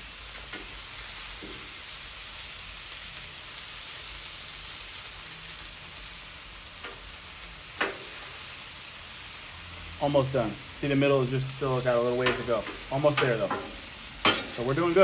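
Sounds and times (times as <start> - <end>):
sausages and onions sizzling: 0.0 - 15.0.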